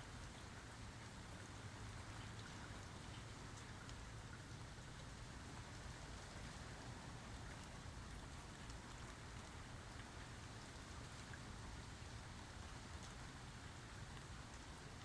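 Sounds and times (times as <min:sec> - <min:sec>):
faint rain falling: 0:00.0 - 0:15.0.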